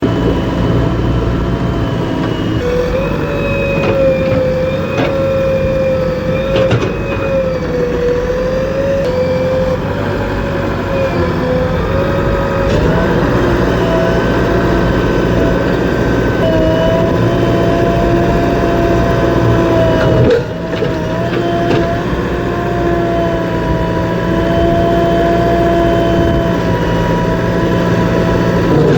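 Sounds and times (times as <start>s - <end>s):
heavy diesel machinery running: 0.0s - 28.9s.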